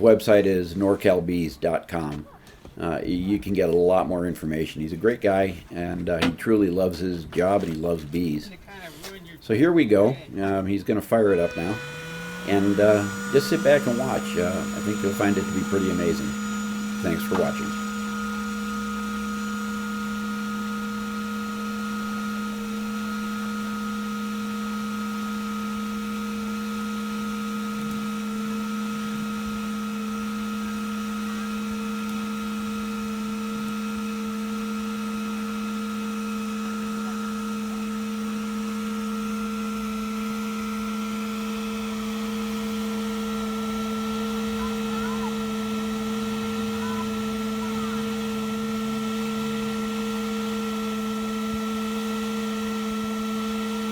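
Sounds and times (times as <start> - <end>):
bee vacuum droning hum: 0.0 - 53.9.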